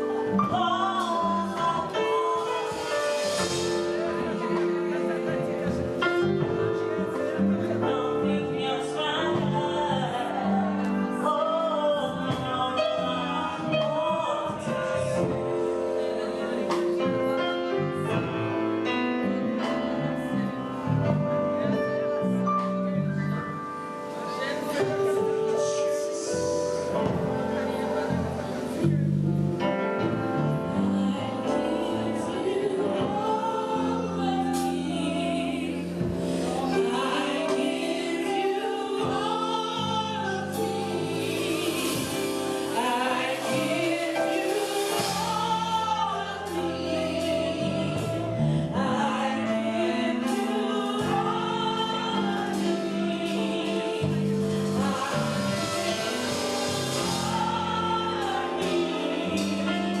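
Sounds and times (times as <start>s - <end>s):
gospel singers with accompaniment: 0.0s - 60.0s.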